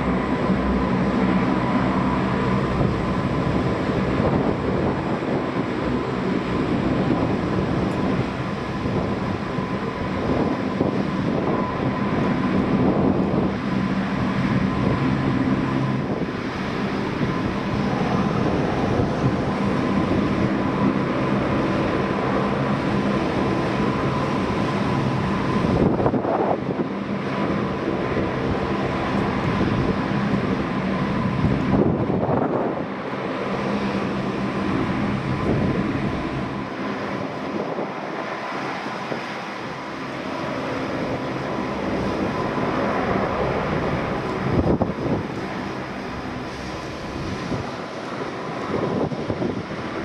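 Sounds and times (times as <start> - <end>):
turboprop engines droning: 0.0 - 50.0.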